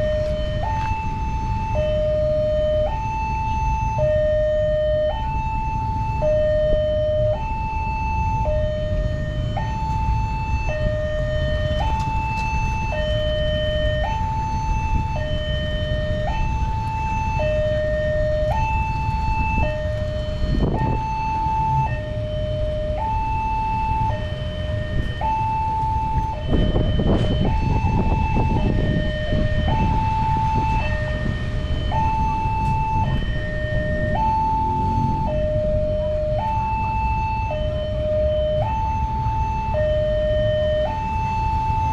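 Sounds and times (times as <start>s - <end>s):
two-tone level-crossing alarm: 0.0s - 41.9s.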